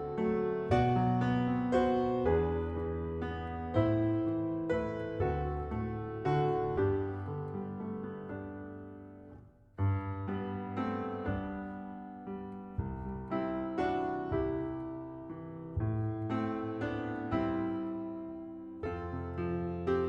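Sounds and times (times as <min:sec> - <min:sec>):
piano chords: 0:00.0 - 0:20.0.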